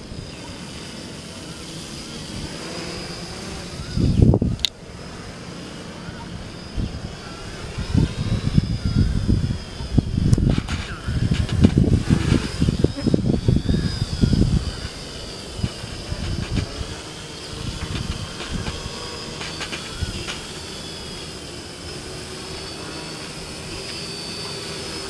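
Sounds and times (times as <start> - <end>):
drone motors whining: 0.0 - 25.0
wind buffeting on microphone: 2.2 - 5.0, 6.2 - 24.4.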